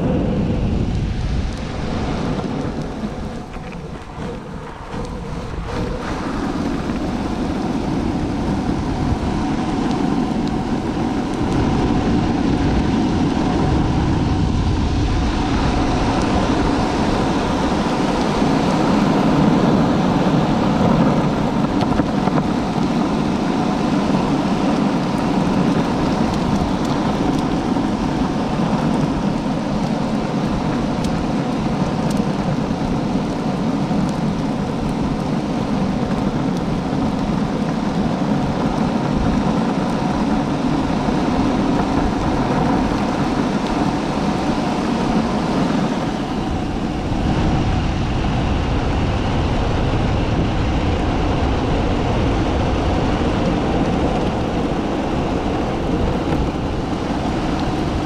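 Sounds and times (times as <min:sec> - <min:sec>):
longboard wheels rolling on pavement: 0:00.0 - 0:58.0.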